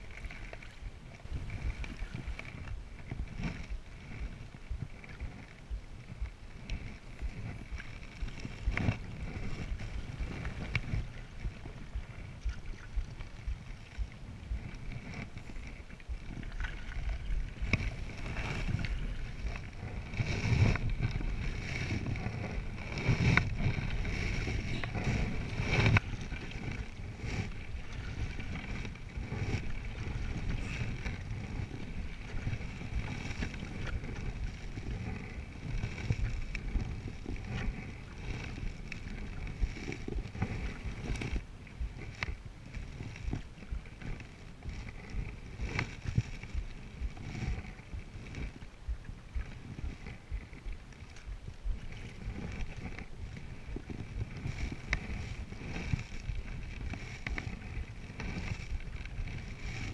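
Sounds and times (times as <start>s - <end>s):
canoe paddle strokes in water: 0.0s - 59.9s
water washing along hull: 0.0s - 59.9s.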